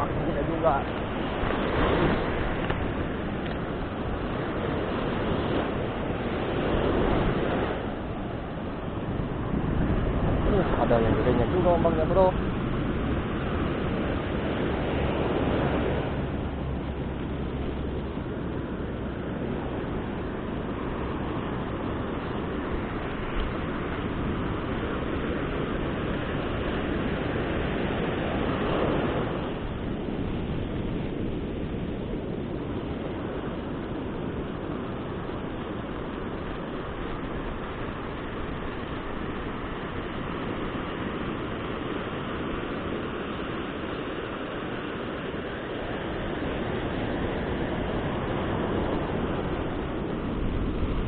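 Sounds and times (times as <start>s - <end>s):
ocean surf breaking on beach: 0.0s - 51.0s.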